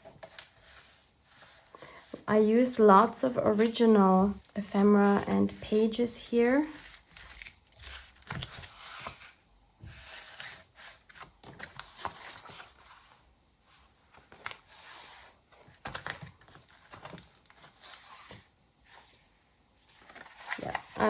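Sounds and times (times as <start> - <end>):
paper pages rustling and crinkling: 0.0 - 19.2, 19.8 - 21.0.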